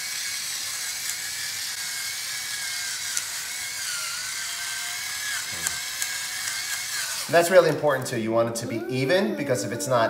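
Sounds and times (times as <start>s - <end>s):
electric pepper mill grinding: 0.0s - 8.3s.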